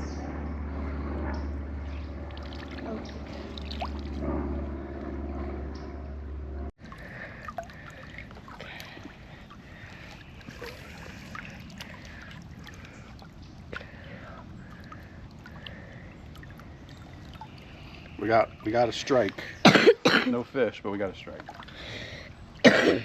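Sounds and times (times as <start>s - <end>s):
river water splashing: 1.9s - 5.1s, 6.8s - 23.0s.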